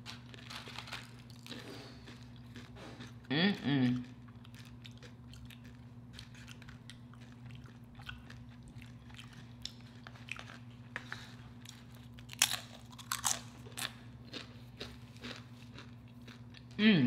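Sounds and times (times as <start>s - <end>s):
chip crunching: 0.0s - 3.3s, 3.9s - 16.8s.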